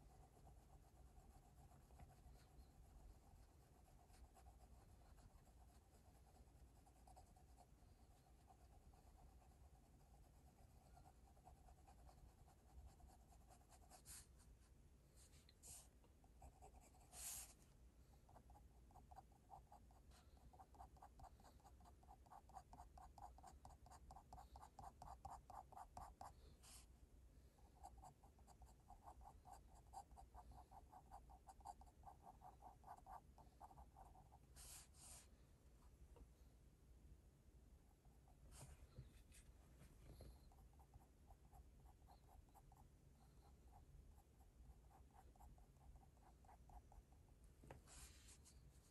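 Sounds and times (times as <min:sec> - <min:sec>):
pencil scratching on paper: 0:00.0 - 0:14.5, 0:15.2 - 0:17.6, 0:18.3 - 0:26.9, 0:27.7 - 0:35.3, 0:40.1 - 0:48.9
faint steady tone: 0:00.0 - 0:48.9.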